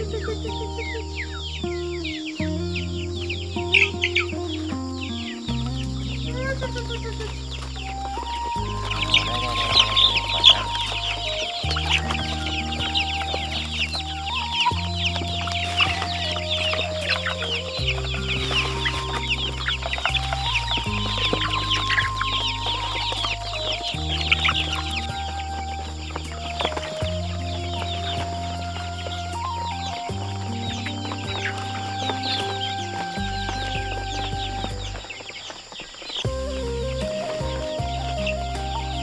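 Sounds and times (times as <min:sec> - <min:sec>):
slow sustained chord music: 0:00.0 - 0:35.5
chickens peeping and clucking: 0:03.0 - 0:38.8.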